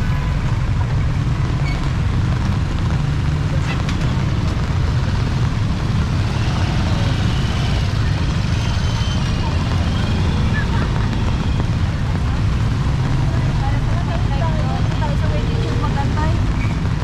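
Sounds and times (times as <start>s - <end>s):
low rumble of wind: 0.0s - 17.0s
rain hissing: 1.5s - 17.0s.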